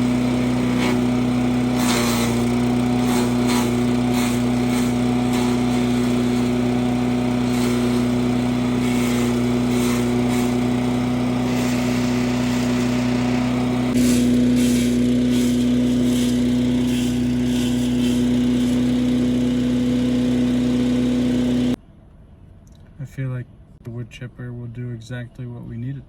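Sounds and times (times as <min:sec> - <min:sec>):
brush crackling through chipper: 0:00.0 - 0:21.8
wood chipper engine hum: 0:00.0 - 0:21.8.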